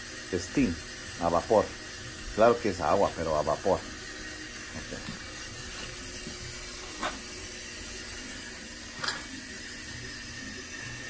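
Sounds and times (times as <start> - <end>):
water hissing into boiler: 0.0 - 11.0.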